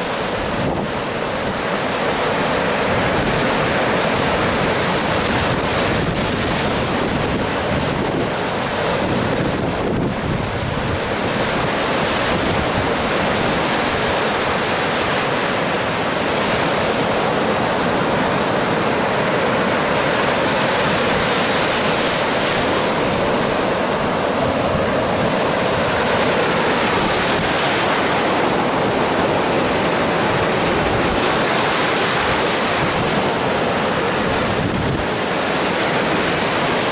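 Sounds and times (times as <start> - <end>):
wind buffeting microphone: 0.0 - 15.3, 16.3 - 36.9
surf washing up a beach: 0.0 - 36.9.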